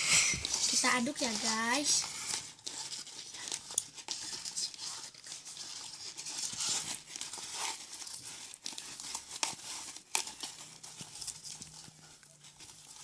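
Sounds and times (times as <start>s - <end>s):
foam crinkling and crackling: 0.0s - 13.0s.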